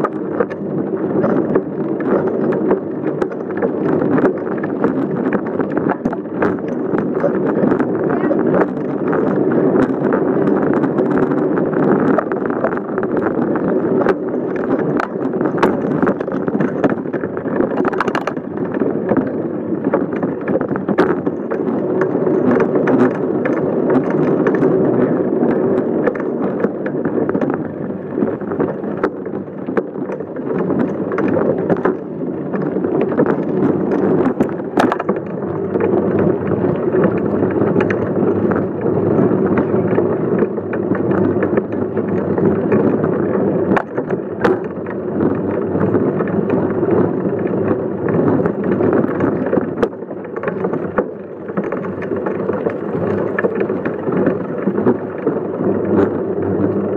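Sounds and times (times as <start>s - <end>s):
bicycle tyres and frame rattling: 0.0s - 56.9s.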